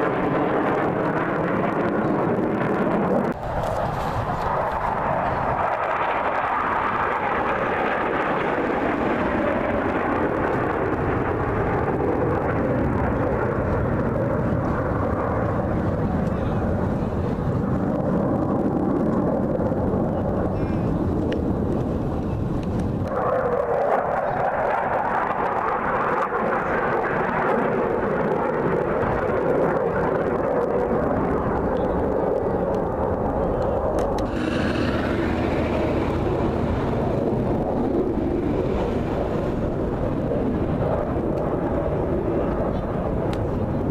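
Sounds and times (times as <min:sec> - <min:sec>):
airplane engine rushing: 0:00.0 - 0:43.9.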